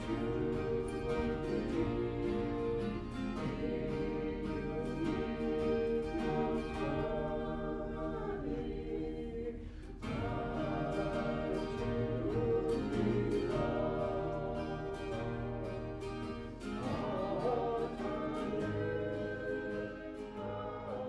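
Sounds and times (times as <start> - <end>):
group singing gospel song: 0.0 - 21.0.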